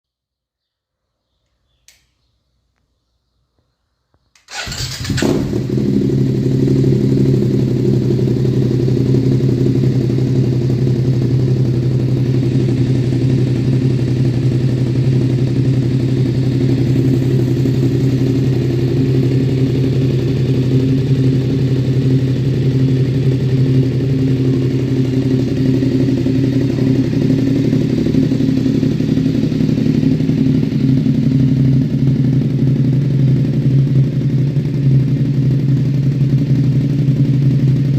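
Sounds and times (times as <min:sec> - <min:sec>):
motorcycle engine idling: 0:04.5 - 0:37.9.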